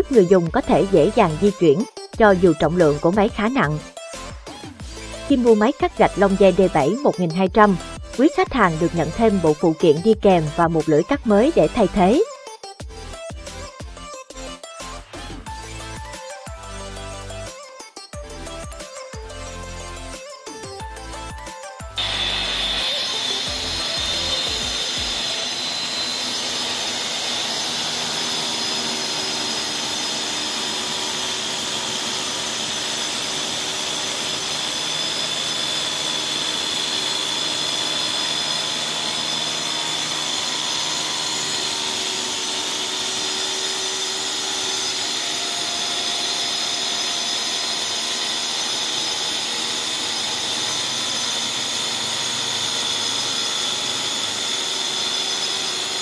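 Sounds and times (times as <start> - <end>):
tile cutter whining: 0.0 - 3.8, 4.9 - 12.2, 21.9 - 56.0.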